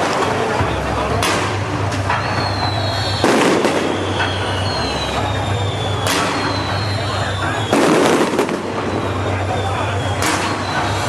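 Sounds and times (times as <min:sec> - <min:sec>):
fireworks crackling and banging: 0:00.0 - 0:11.0
high descending whistles: 0:02.1 - 0:11.0.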